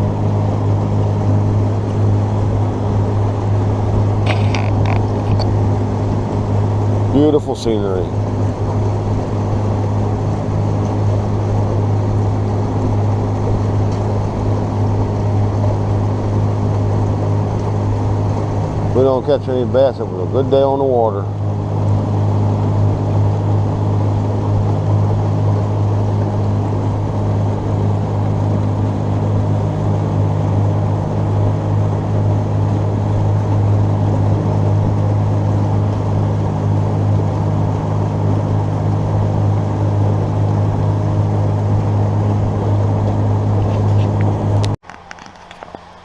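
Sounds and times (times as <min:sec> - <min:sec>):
boat motor running: 0:00.0 - 0:46.0
rushing wind: 0:00.0 - 0:46.0.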